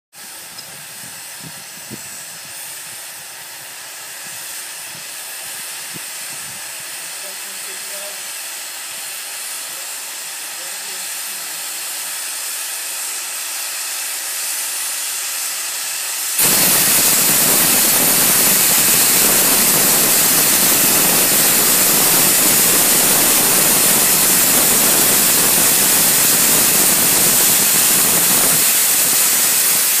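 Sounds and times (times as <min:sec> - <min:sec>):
steam locomotive blowing off steam: 0:00.1 - 0:30.0.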